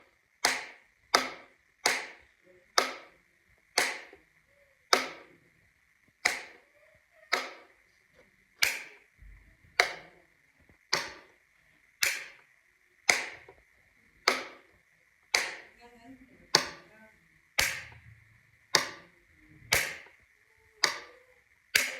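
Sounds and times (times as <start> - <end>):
faint high hum: 0.0 - 21.9.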